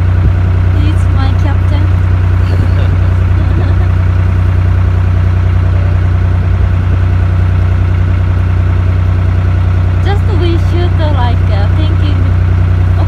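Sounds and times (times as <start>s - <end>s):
boat diesel engine humming: 0.0s - 13.0s.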